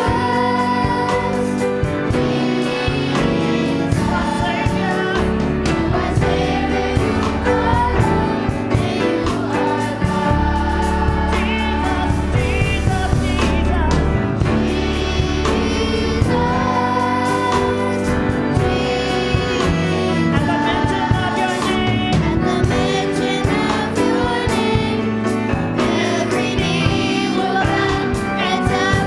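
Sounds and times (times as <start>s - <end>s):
choir singing: 0.0s - 29.0s
instrumental backing: 0.0s - 29.0s
percussion hits: 0.0s - 29.0s.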